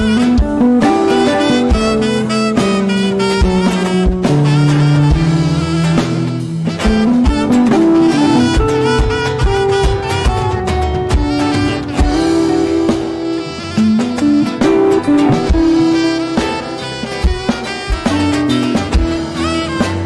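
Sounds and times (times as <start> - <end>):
alto saxophone solo: 0.0 - 20.0
live band with drums: 0.0 - 20.0.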